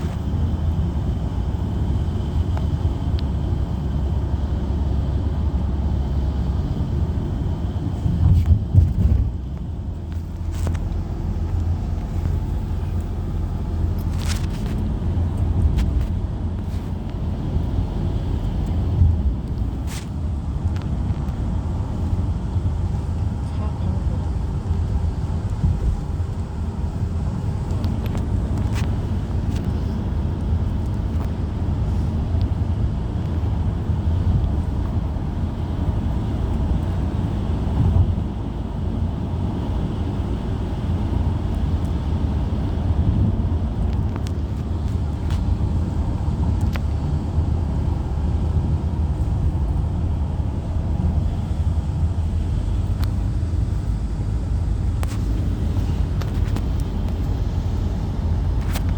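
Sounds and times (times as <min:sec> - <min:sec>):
road vehicle driving: 0:00.0 - 0:58.9.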